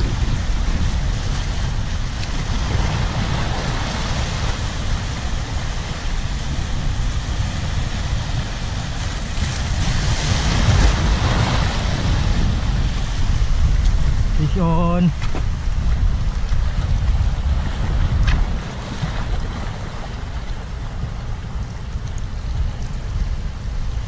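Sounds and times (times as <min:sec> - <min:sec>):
surf breaking over rocks: 0:00.0 - 0:24.0
wind buffeting microphone: 0:00.0 - 0:24.0.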